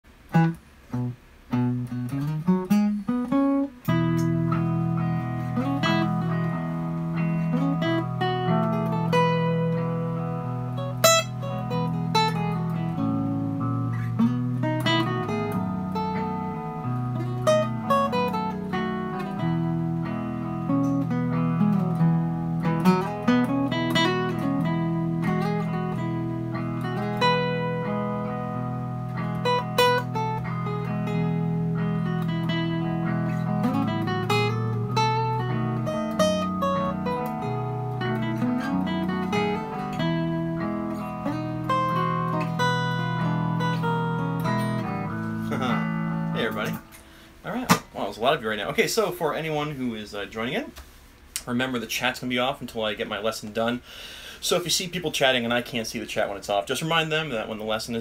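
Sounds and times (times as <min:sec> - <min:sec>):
acoustic guitar playing: 0:00.0 - 0:55.8.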